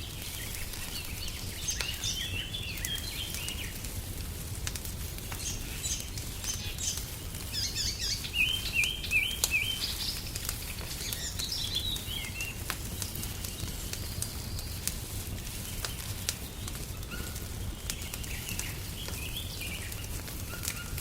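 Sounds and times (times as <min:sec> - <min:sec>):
songbird singing: 0:00.0 - 0:03.8, 0:05.2 - 0:14.9, 0:15.6 - 0:21.0
wood fire crackling: 0:00.0 - 0:21.0.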